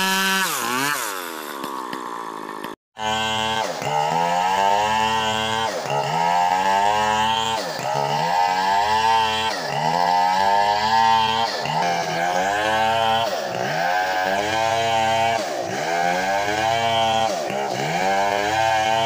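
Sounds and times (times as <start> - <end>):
chainsaw cutting log: 0.0 - 19.0.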